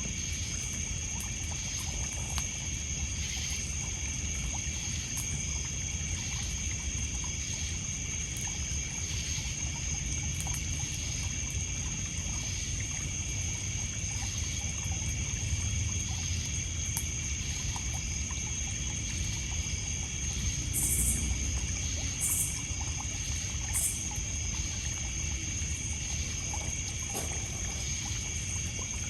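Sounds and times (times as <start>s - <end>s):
crickets and insects trilling: 0.0s - 29.0s.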